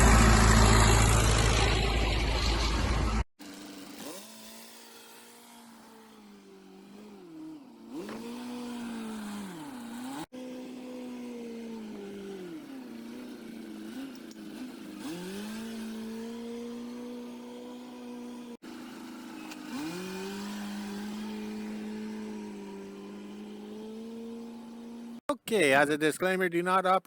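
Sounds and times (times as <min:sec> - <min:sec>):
truck engine revving under load: 0:00.0 - 0:05.5, 0:06.2 - 0:25.2.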